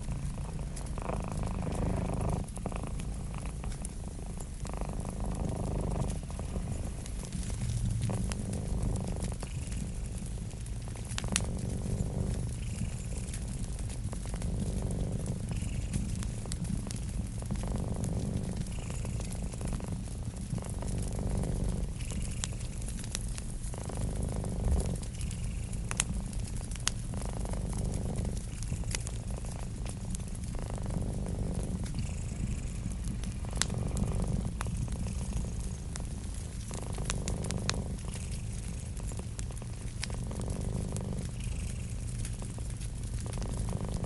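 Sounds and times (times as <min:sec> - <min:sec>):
cat purring: 0:00.0 - 0:44.0
wood fire crackling: 0:00.0 - 0:44.0.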